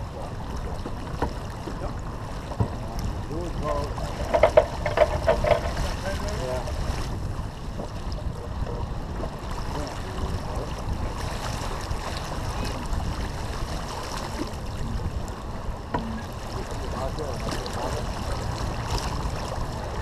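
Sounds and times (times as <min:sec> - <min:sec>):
water rushing along hull: 0:00.0 - 0:20.0
wind rumble on microphone: 0:00.0 - 0:20.0.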